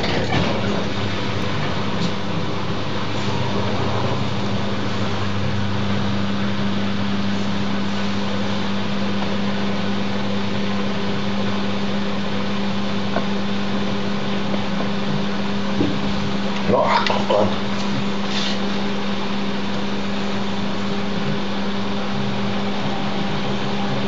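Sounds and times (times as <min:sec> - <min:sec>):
steady low hum: 0:00.0 - 0:24.0
washing machines running: 0:00.0 - 0:24.0.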